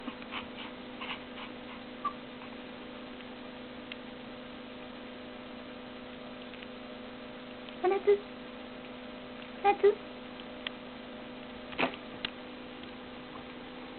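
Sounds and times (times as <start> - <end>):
low electrical hum: 0.0 - 13.9.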